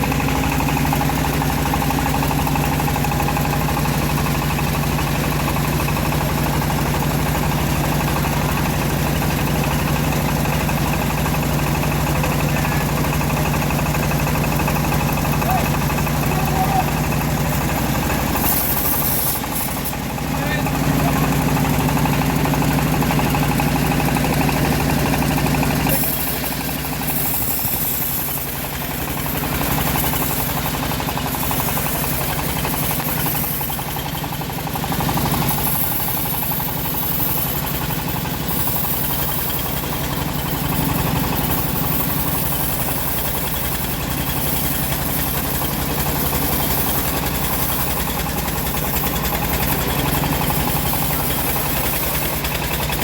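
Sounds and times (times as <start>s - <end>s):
saw hissing through log: 0.0s - 53.0s
sawmill engine running: 0.0s - 53.0s.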